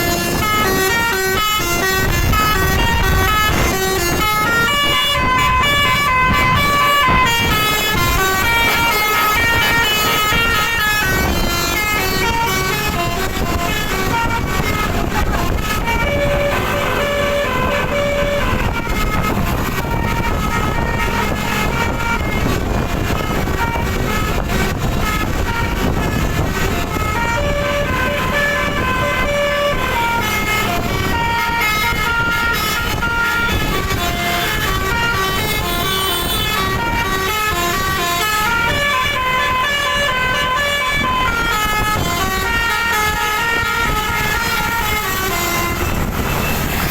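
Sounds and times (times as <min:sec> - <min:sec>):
bus multi-tone air horn melody: 0:00.0 - 0:46.9
bus rumble: 0:00.0 - 0:46.9
road traffic: 0:00.0 - 0:46.9.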